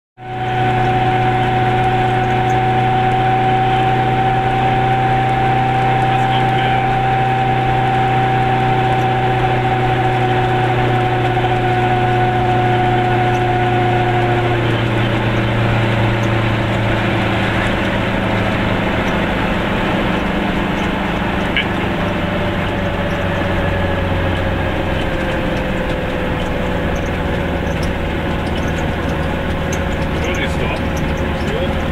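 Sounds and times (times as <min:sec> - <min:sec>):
small two-stroke car engine droning: 0:00.2 - 0:31.9.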